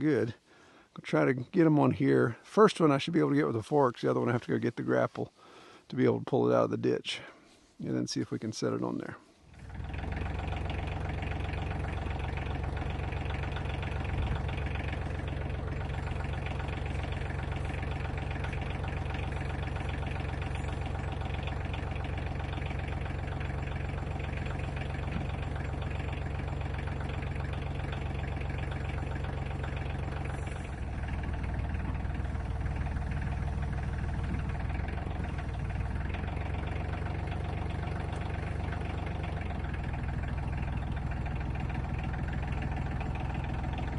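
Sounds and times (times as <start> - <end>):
tractor engine running: 8.6 - 43.9.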